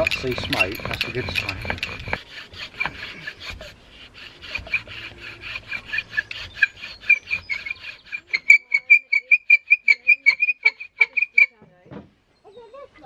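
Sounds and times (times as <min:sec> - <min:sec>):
bow drill squeaky wood rubbing: 0:00.0 - 0:11.6.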